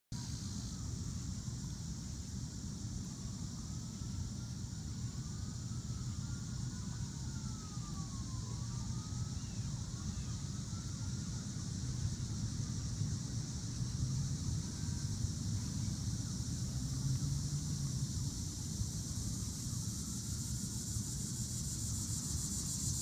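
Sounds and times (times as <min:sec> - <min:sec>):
constant low rumble: 0:00.2 - 0:23.0
steady high hiss: 0:00.2 - 0:23.0
distant siren wailing: 0:03.8 - 0:22.9.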